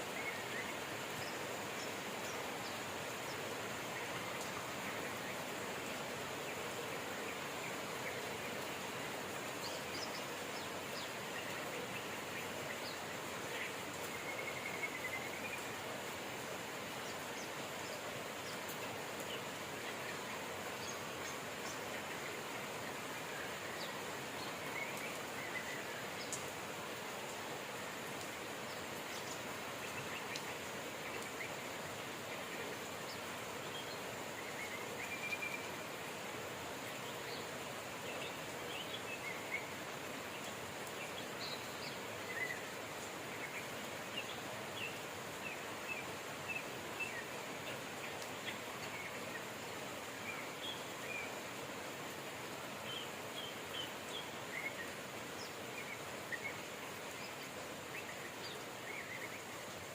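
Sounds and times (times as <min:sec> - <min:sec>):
birds chirping: 0:00.0 - 0:59.9
steady rain: 0:00.0 - 0:59.9.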